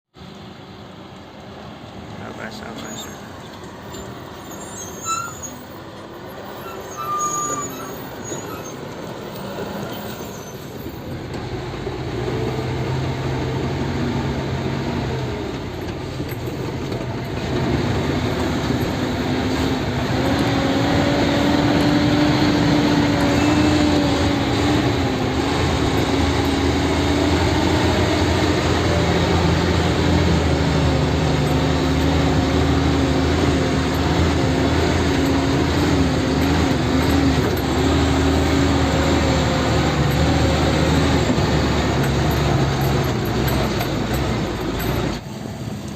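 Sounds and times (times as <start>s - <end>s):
heavy diesel engine droning: 0.2s - 45.9s.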